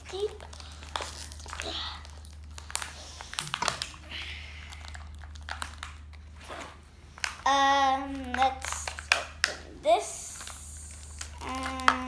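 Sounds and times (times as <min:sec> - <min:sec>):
plastic packaging crinkling: 0:00.0 - 0:07.5, 0:08.1 - 0:09.6, 0:10.3 - 0:12.0.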